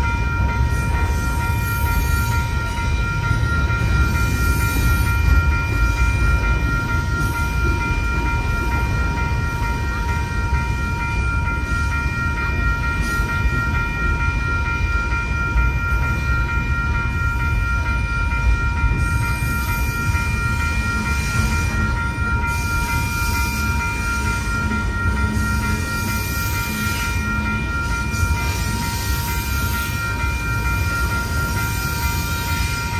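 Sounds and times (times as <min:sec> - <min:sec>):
crossing bell ringing: 0:00.0 - 0:32.9
freight train rumbling: 0:00.0 - 0:32.9.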